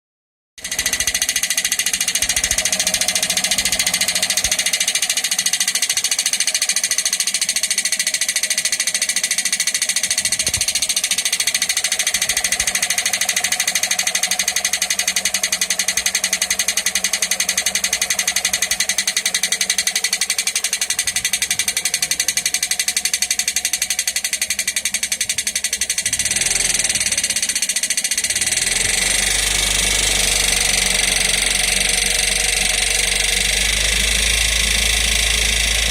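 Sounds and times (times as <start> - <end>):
engine running with rapid knock: 0.6 - 35.9.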